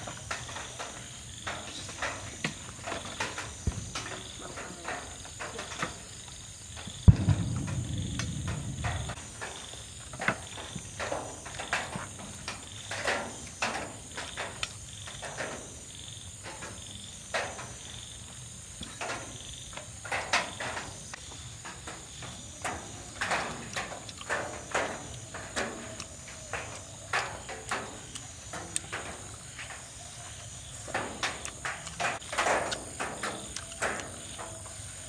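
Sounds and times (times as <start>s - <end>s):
night insects chirping: 0.0s - 35.0s.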